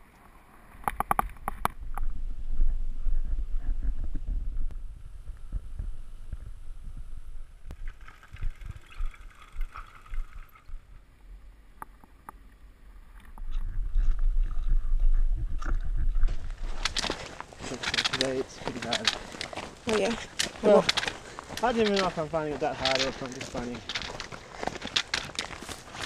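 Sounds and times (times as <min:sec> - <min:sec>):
wind rumbling on microphone: 0:00.8 - 0:11.1, 0:13.0 - 0:26.0.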